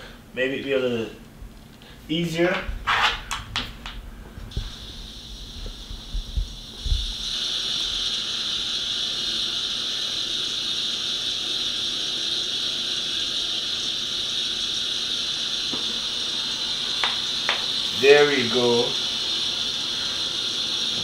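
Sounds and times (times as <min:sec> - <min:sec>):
white noise hiss from speaker: 0:00.0 - 0:21.0.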